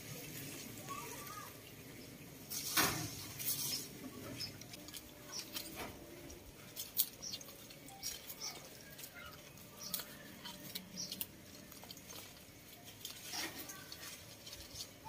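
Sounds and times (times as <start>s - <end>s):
leaves and branches rustling: 0.0s - 15.0s.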